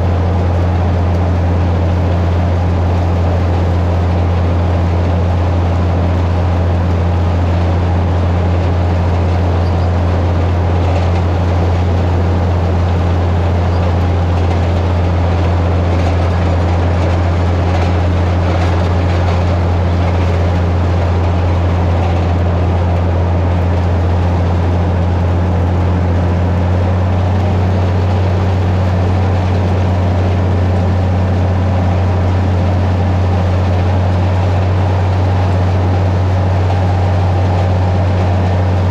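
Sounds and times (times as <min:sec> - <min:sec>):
tractor engine drone: 0:00.0 - 0:38.9.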